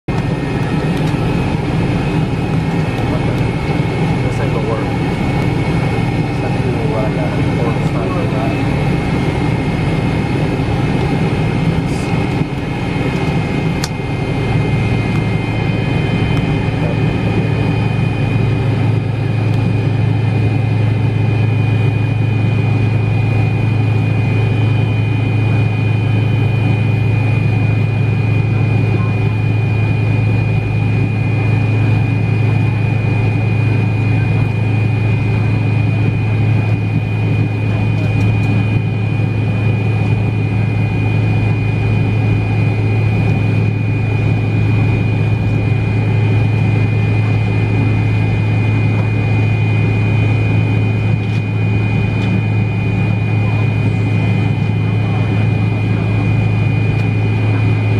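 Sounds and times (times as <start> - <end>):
jet engines humming with high whine: 0.1 - 57.9.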